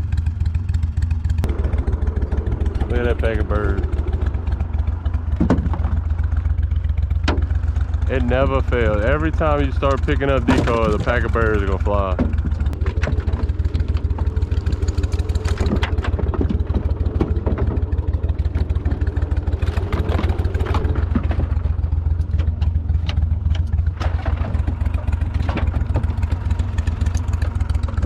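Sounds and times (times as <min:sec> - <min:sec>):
boat motor running: 0:00.0 - 0:28.0
decoys clacking and knocking: 0:01.4 - 0:28.0.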